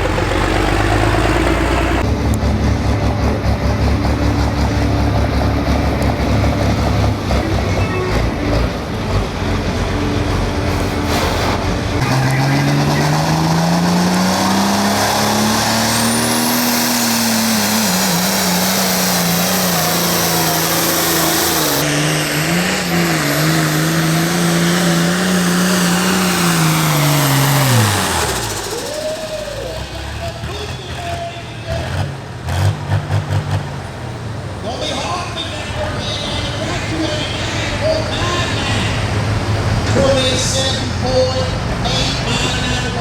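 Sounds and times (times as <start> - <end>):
tractor diesel engine at full throttle: 0.0 - 43.0.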